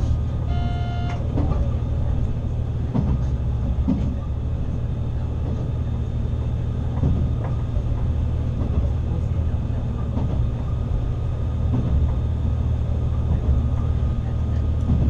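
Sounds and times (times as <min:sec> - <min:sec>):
railcar engine hum: 0:00.0 - 0:15.0.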